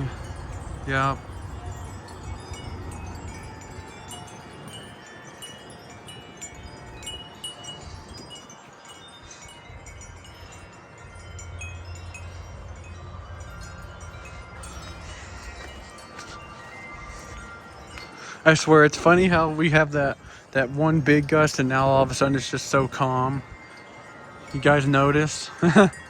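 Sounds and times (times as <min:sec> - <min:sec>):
wind chimes ringing: 0:00.0 - 0:26.0
wind rumbling on microphone: 0:00.0 - 0:26.0.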